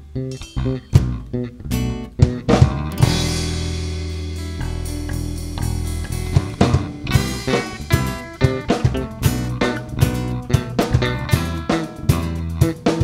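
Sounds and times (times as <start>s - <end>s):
rock band playing instrumental: 0.0s - 13.0s
drum hits: 2.2s - 13.0s.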